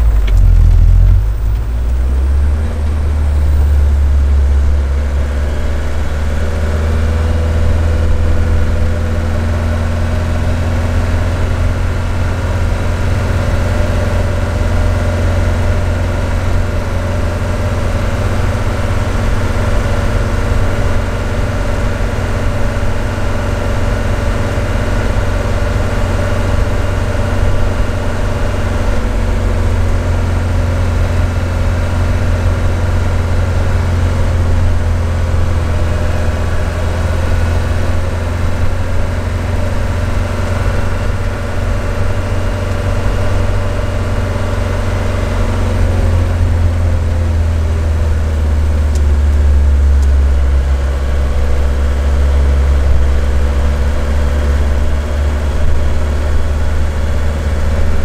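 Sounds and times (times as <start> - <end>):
diesel van engine droning: 0.0 - 58.0.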